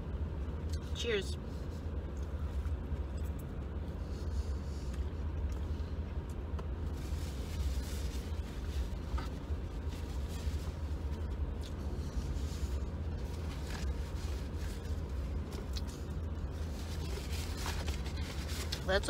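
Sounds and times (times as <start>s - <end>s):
car engine drone in cabin: 0.0s - 19.0s.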